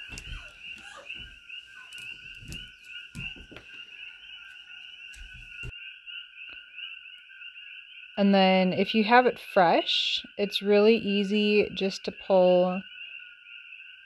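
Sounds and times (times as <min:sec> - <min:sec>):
chorus of frogs chirping: 0:00.0 - 0:14.0.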